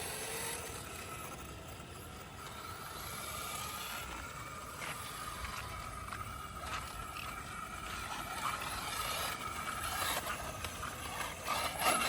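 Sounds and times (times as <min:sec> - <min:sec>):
electric toy car motor whine: 0:00.0 - 0:12.0.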